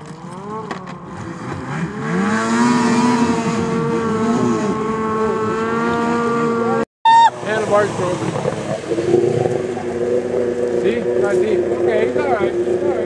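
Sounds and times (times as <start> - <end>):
snowmobile engine revving: 0.1 - 13.0.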